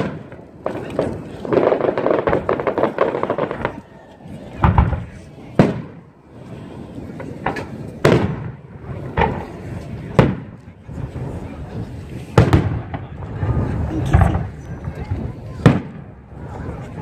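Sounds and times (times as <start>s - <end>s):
fireworks bangs echoing: 0.0s - 17.0s
fireworks crackling: 0.0s - 17.0s.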